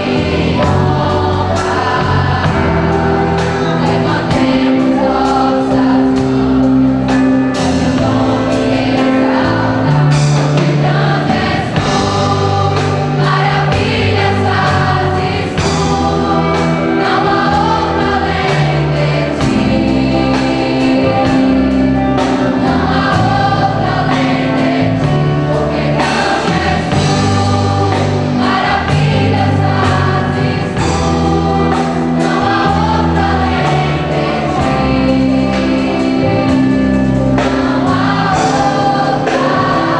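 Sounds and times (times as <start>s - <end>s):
choir singing gospel: 0.0s - 39.9s
instrumental accompaniment with beat: 0.0s - 39.9s.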